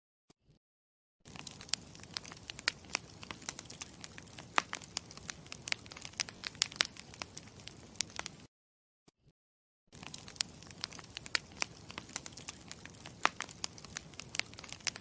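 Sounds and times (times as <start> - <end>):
campfire crackling: 1.3 - 8.5, 10.0 - 15.0.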